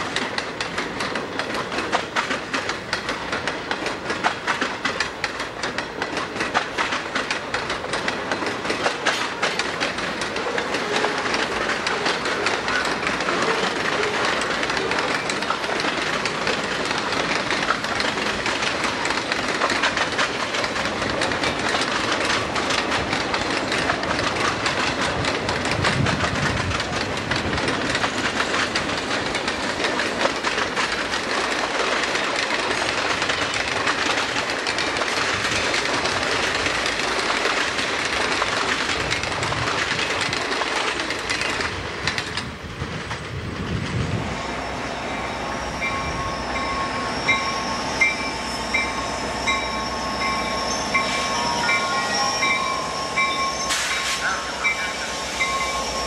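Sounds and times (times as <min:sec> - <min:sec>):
train wheels clicking over rail joints: 0:00.0 - 0:56.0.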